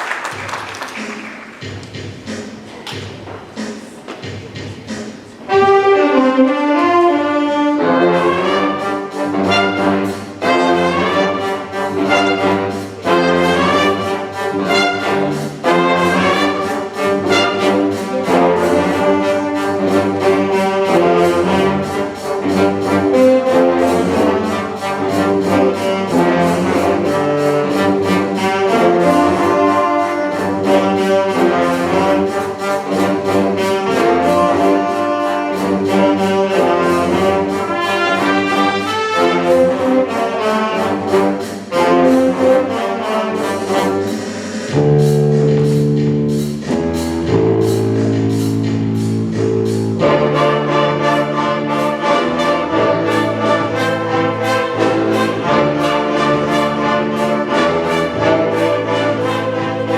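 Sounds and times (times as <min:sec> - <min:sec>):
percussion beat: 0:00.0 - 0:05.8, 0:08.3 - 0:59.9
brass sustained chords: 0:05.5 - 0:46.1, 0:46.7 - 0:59.9.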